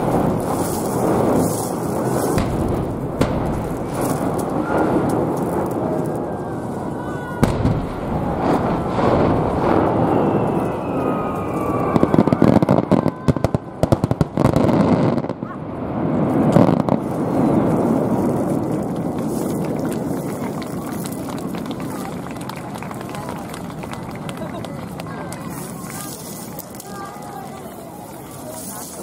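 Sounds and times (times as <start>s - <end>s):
fireworks booming: 0.0s - 26.1s
fireworks crackling bangs: 0.0s - 29.0s.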